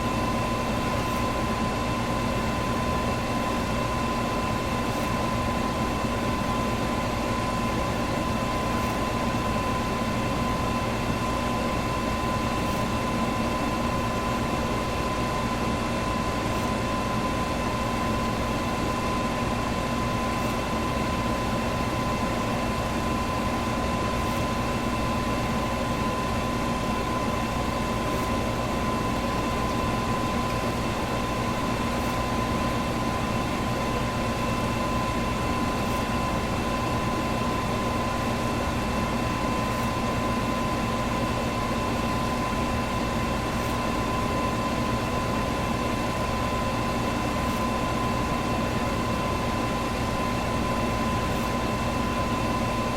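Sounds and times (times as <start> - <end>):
electric fan running: 0.0 - 52.9.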